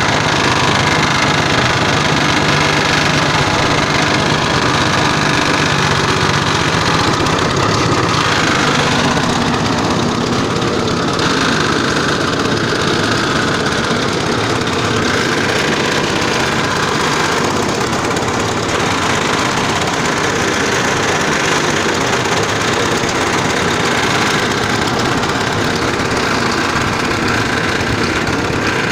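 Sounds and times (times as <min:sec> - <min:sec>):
feed mixer machine droning: 0:00.0 - 0:28.9.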